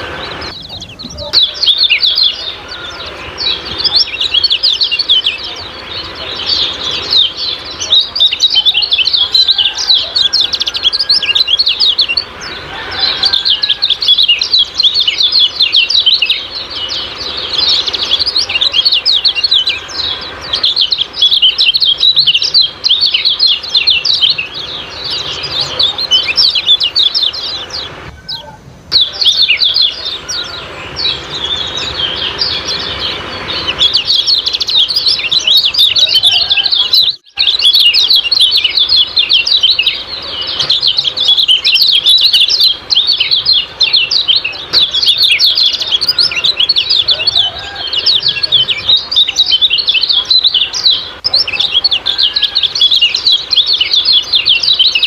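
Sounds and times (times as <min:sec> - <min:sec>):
songbird chirping rapidly: 0:00.0 - 0:55.0.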